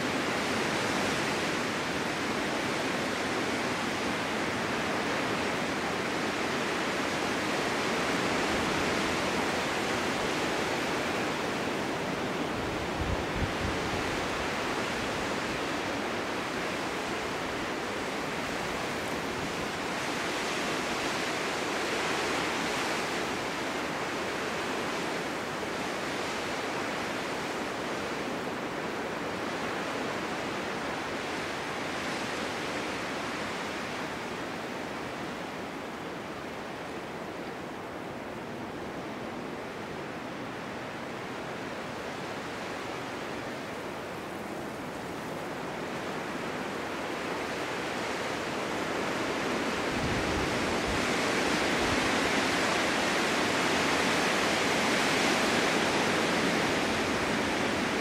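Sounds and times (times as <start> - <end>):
snowstorm wind: 0.0 - 58.0.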